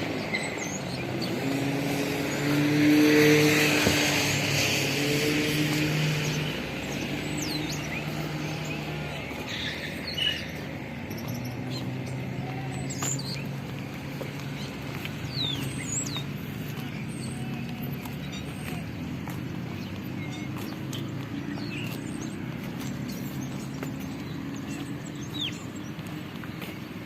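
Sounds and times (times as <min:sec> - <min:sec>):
birds chirping: 0:00.0 - 0:27.0
road or wind noise: 0:00.0 - 0:27.0
vehicle engine humming: 0:00.0 - 0:27.0.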